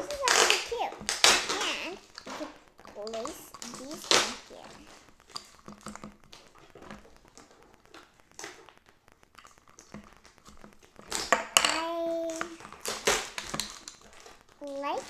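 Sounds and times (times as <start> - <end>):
plastic toys tapping and clicking: 0.0 - 15.0.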